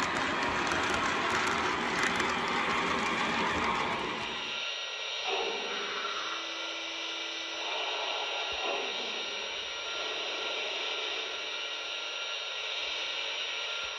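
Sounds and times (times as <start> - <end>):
model train running on track: 0.0 - 13.9.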